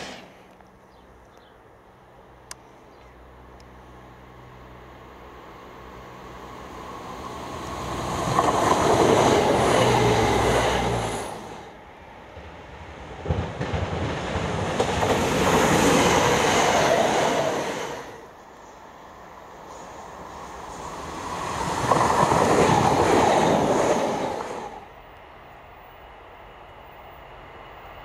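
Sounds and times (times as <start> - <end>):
electric trains passing: 0.0 - 28.0.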